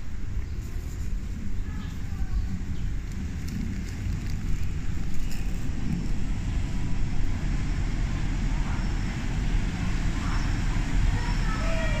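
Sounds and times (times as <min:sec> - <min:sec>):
diesel railcar engine rumbling: 0:00.0 - 0:12.0.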